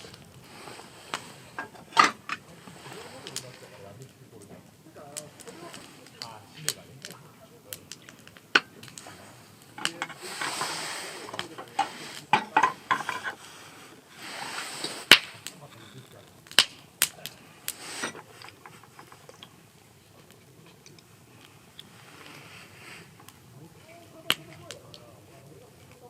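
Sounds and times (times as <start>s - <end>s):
fire hissing: 0.0s - 26.0s
sharp pops: 0.0s - 26.0s
wood fire crackling: 0.0s - 26.0s.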